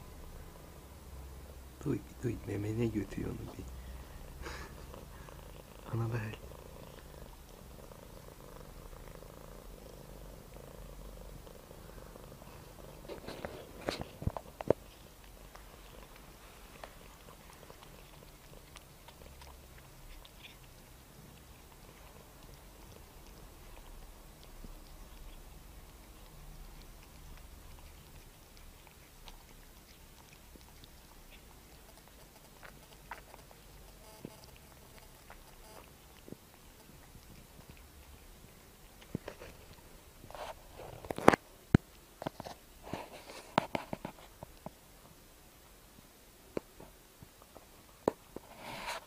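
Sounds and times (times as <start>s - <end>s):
cat purring: 0.0s - 45.2s.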